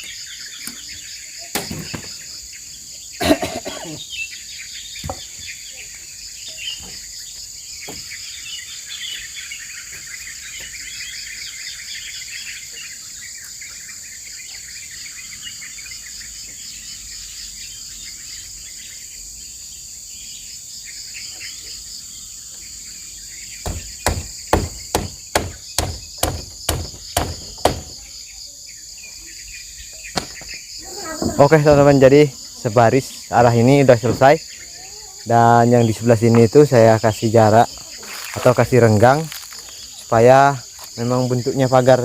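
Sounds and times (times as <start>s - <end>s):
birds chirping: 0.0s - 42.0s
shrill insect chorus: 0.0s - 42.0s.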